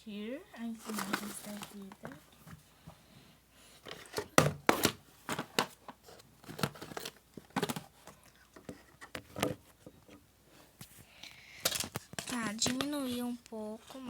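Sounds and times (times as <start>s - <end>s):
handling rustles and scrapes: 0.6s - 14.0s.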